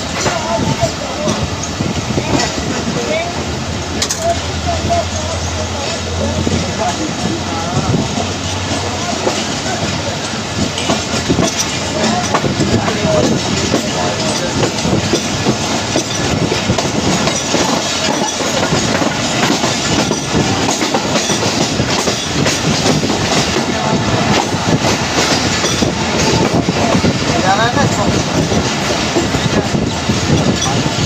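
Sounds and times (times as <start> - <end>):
train carriage rumbling: 0.0 - 31.0
wheels clattering over rails: 0.0 - 31.0.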